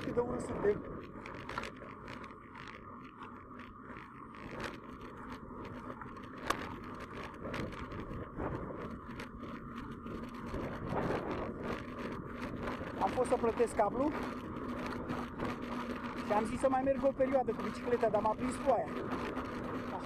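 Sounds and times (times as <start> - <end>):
camera rubbing and scraping: 0.0 - 20.0
low rumble of bicycle riding: 0.0 - 20.0.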